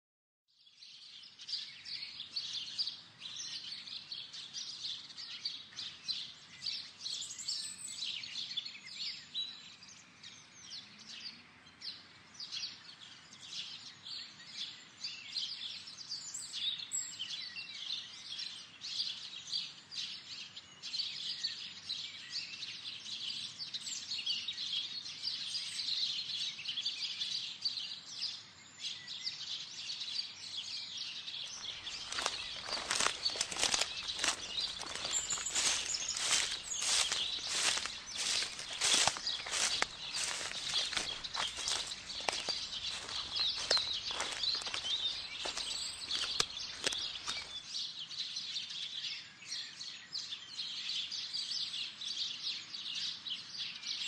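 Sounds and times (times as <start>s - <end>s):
birds chirping chorus: 0.8s - 54.0s.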